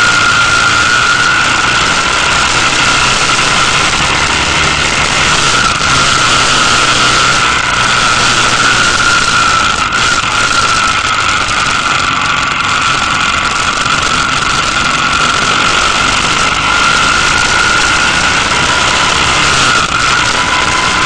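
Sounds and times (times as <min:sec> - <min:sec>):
motorcycle engine cruising: 0:00.0 - 0:21.0
steady high tone: 0:00.0 - 0:21.0
wind rushing over microphone: 0:00.0 - 0:21.0.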